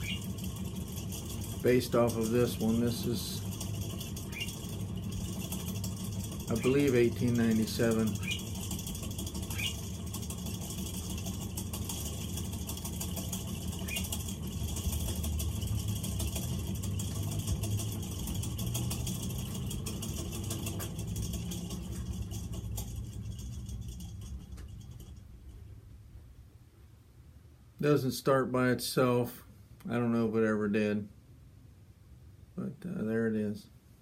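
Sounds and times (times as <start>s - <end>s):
ceiling fan humming and rattling: 0.0s - 34.0s.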